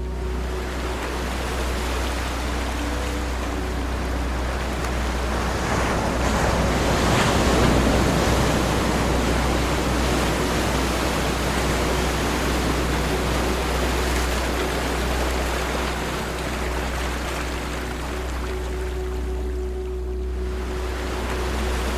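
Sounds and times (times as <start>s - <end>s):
ocean waves washing on shore: 0.0s - 21.9s.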